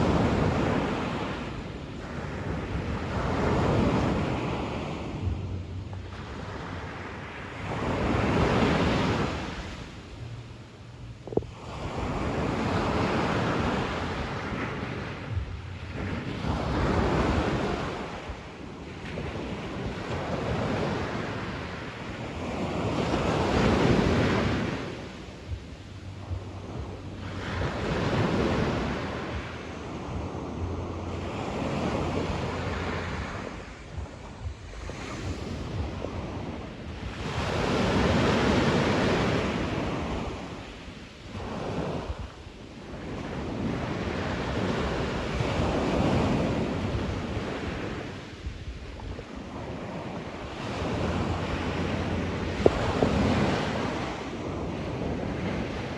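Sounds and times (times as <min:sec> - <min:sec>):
sea waves breaking on shore: 0:00.0 - 0:55.9.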